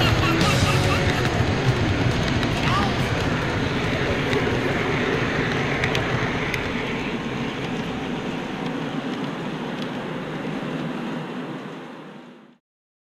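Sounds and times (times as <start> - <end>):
model train rolling on track: 0.0 - 12.6.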